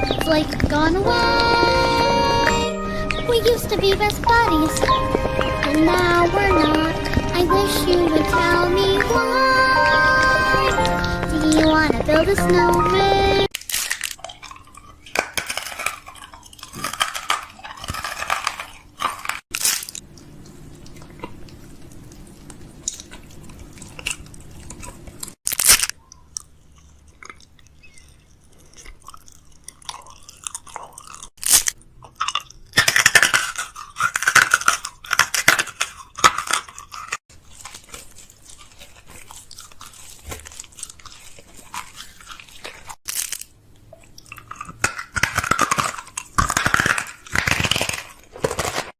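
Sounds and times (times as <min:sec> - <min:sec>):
crunching: 0:00.0 - 0:48.9.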